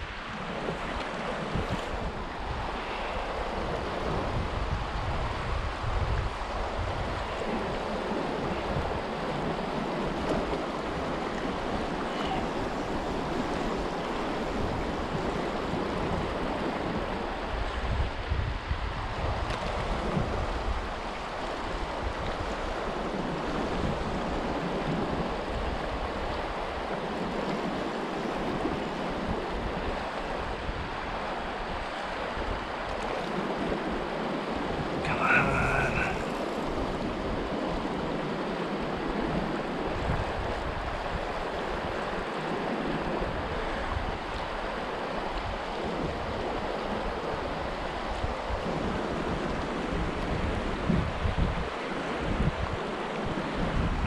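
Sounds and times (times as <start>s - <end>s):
river current rushing: 0.0s - 54.0s
wind buffeting microphone: 0.0s - 54.0s.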